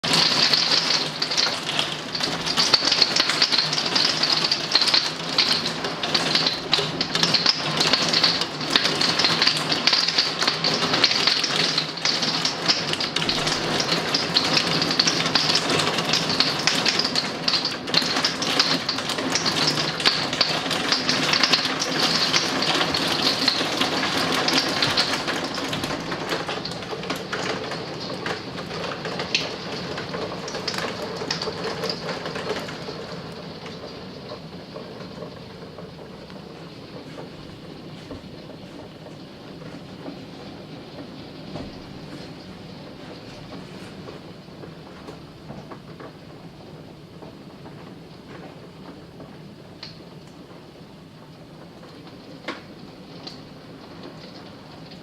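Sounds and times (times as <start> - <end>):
heavy rain and hail: 0.0 - 55.0.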